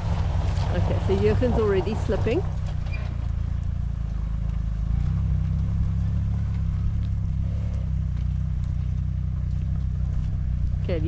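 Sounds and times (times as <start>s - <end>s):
off-road engines droning: 0.0s - 11.0s.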